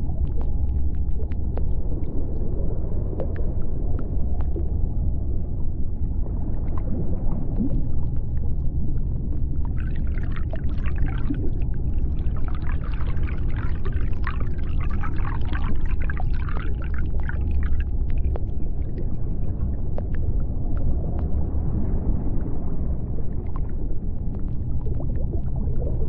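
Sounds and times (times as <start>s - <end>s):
deep underwater rumble: 0.0s - 26.0s.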